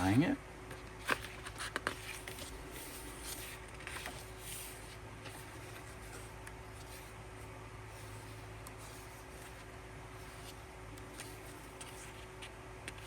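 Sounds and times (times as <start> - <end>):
low room hum: 0.0 - 13.0
paper and card rustling: 0.0 - 13.0
soft scratches: 1.1 - 13.0.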